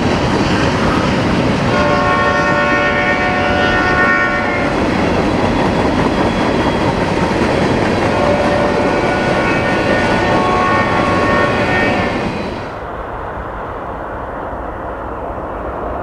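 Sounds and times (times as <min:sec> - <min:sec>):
train wheels rumbling and clicking: 0:00.0 - 0:16.0.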